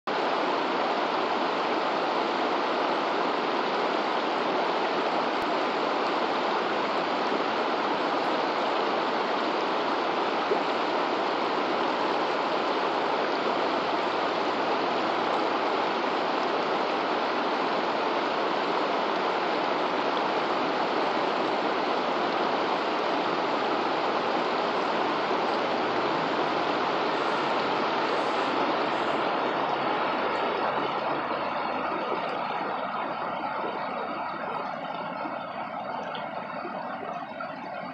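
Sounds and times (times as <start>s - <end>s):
river rushing over stones: 0.1s - 37.9s.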